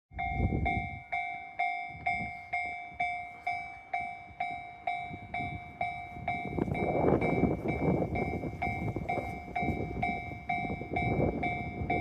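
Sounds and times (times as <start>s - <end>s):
level crossing warning bell clanging: 0.1s - 12.0s.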